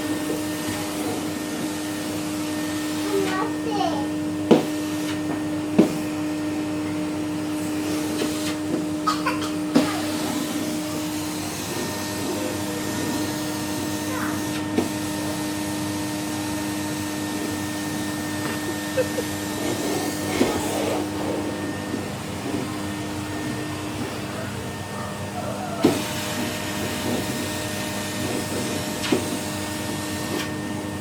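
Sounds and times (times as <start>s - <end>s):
vacuum cleaner motor hum: 0.0s - 31.0s.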